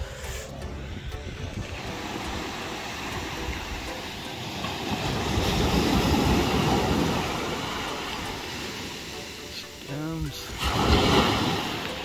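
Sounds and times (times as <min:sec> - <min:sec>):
surf breaking on beach: 0:01.7 - 0:12.0.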